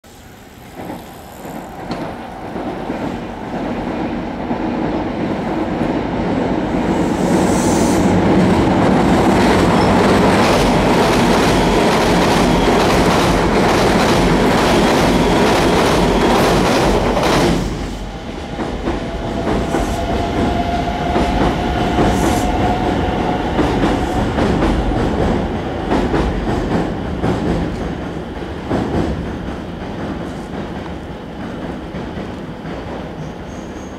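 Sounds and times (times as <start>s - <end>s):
distant train running noise: 0.0s - 33.9s
train rumbling over bridge: 0.0s - 33.9s
train whine: 0.0s - 33.9s.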